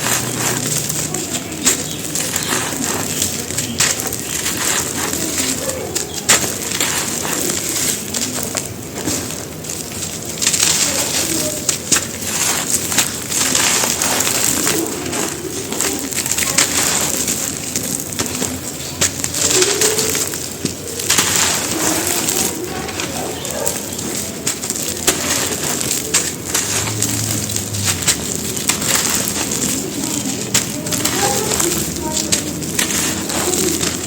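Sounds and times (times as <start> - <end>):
gravel chunks crunching: 0.0 - 34.0.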